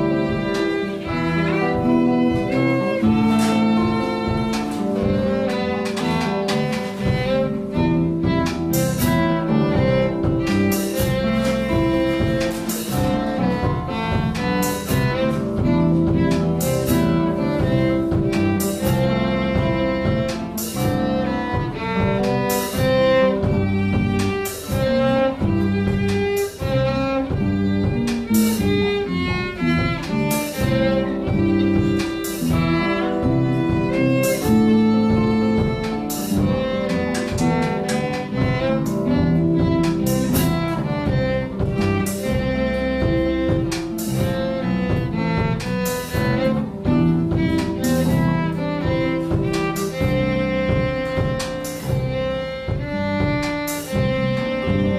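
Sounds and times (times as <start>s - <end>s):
drum kit with cymbals: 0.0s - 54.9s
electric bass: 0.0s - 54.9s.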